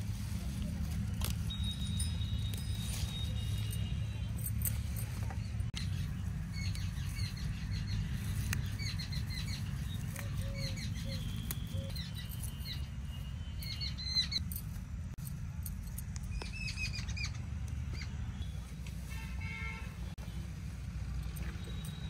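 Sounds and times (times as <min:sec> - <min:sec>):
small birds chirping: 0:00.0 - 0:18.9
steady low rumble: 0:00.0 - 0:19.1.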